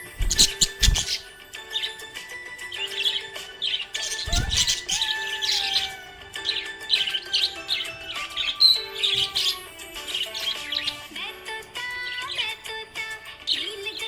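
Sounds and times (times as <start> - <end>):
background music with held tones: 0.0 - 14.0
parrots chirping: 0.0 - 14.0.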